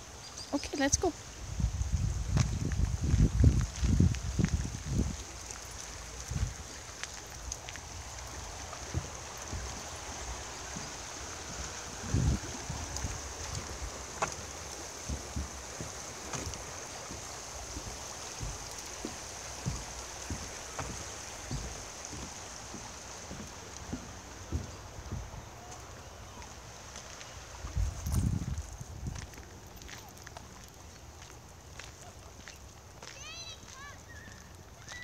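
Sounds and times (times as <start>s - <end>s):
steady hiss: 0.0s - 35.0s
footsteps on footbridge: 0.6s - 35.0s.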